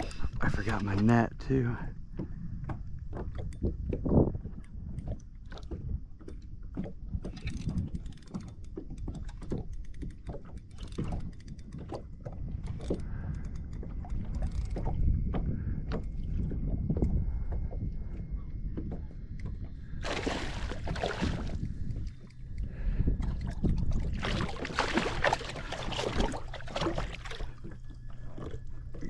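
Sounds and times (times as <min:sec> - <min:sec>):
steady low rumble: 0:00.0 - 0:08.1, 0:11.5 - 0:29.0
knocks and clicks against hull: 0:00.0 - 0:29.0
water sloshing: 0:02.1 - 0:29.0.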